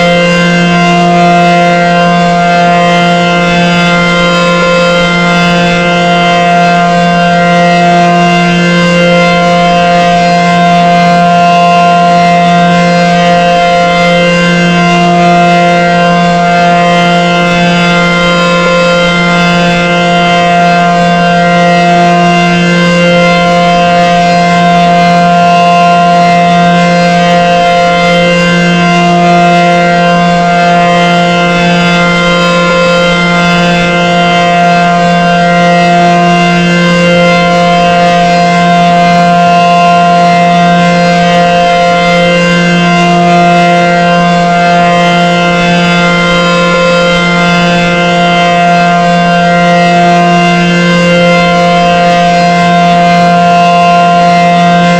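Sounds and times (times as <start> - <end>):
warning siren steady tone: 0.0 - 54.9.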